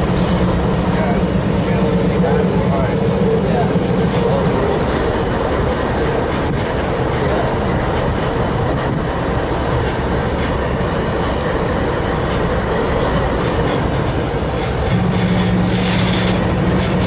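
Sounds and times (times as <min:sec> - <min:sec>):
freight train wheels rattling on track: 0:00.0 - 0:17.0.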